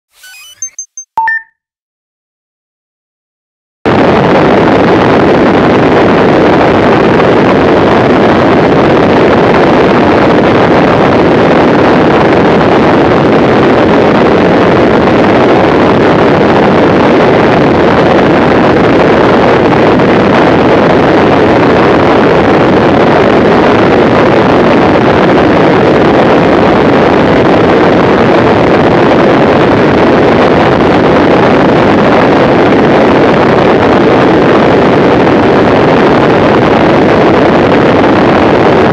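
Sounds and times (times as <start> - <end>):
wind buffeting microphone: 3.9 - 38.9.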